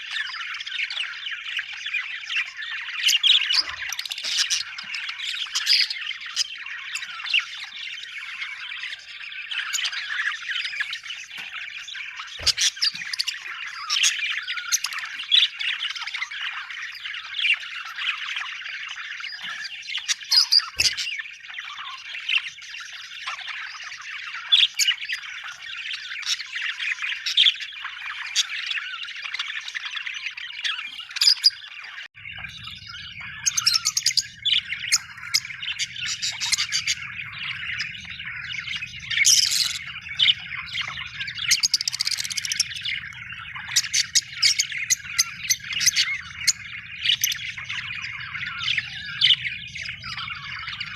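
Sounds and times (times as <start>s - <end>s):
budgerigars chattering: 0.0s - 50.9s.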